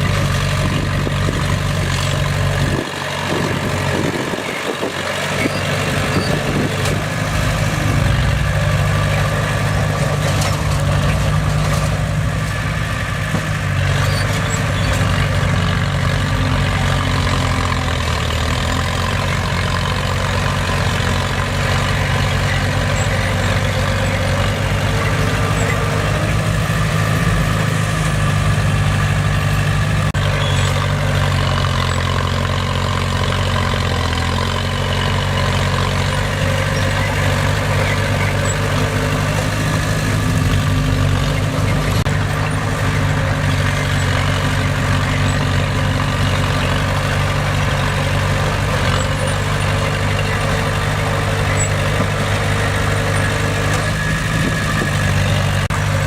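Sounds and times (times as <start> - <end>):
heavy machinery diesel engine running: 0.0 - 56.0.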